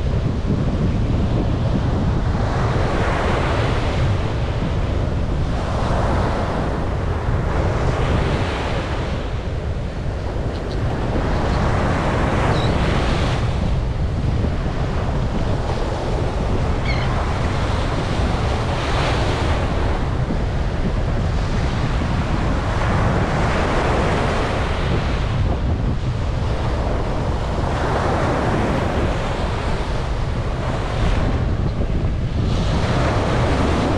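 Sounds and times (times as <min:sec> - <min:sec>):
surf washing up beach: 0:00.0 - 0:33.9
wind buffeting microphone: 0:00.0 - 0:33.9.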